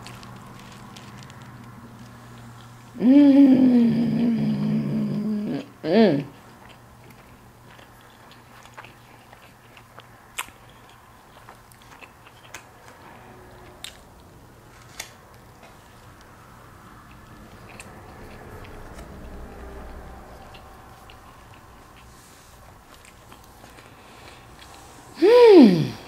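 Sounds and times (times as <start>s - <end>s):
close-up chewing: 0.0s - 3.0s, 4.0s - 25.2s
faint steady hum: 0.0s - 26.0s.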